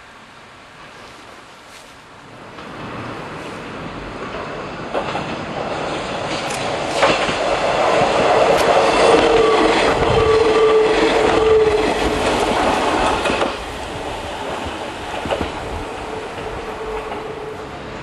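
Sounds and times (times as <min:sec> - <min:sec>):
steady train whine: 0:00.0 - 0:18.0
train wheels rumbling on rails: 0:00.0 - 0:18.0
rail-joint clicks: 0:02.5 - 0:17.8.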